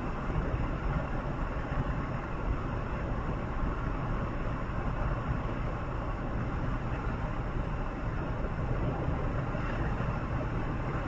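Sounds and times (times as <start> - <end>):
moving vehicle rumble and hiss: 0.0 - 11.0.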